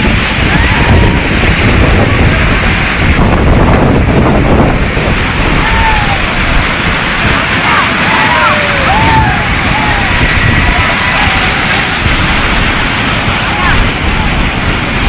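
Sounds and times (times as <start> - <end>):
water rushing from dam gates: 0.0 - 15.0
wind buffeting microphone: 0.0 - 15.0.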